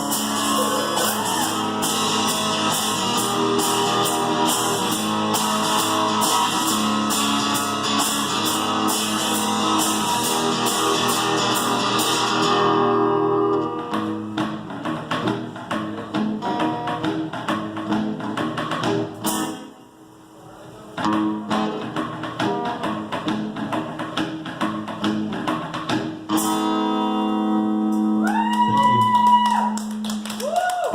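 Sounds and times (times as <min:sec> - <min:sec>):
cajon playing: 0:00.0 - 0:19.8, 0:21.0 - 0:30.9
acoustic guitar: 0:00.0 - 0:20.0, 0:20.8 - 0:28.2.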